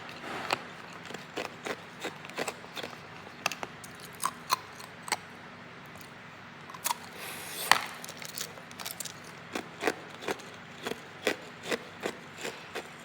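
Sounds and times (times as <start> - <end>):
chewing ice crunches: 0.1 - 5.3, 6.7 - 13.0.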